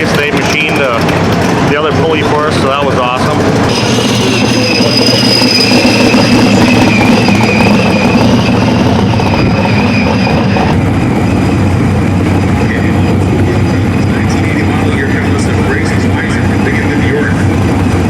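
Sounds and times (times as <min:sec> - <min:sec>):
car engine idling loudly: 0:00.0 - 0:18.0
supercharger whine: 0:00.0 - 0:18.0.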